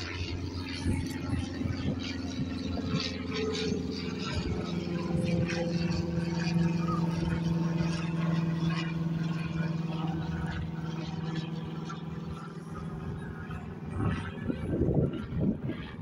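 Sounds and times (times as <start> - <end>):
airliner engines droning: 0.0 - 16.0.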